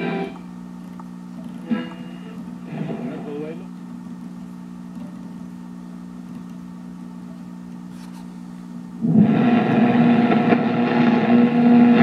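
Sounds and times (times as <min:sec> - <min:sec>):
radio low hum: 0:00.0 - 0:12.0.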